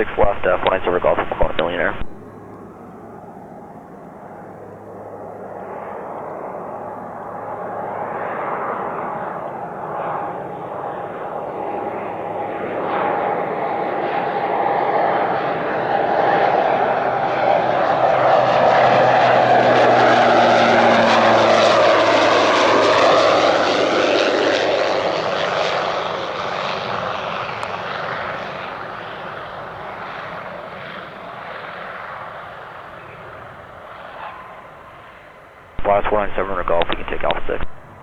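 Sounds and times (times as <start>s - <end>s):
propeller plane passing: 0.0s - 38.0s.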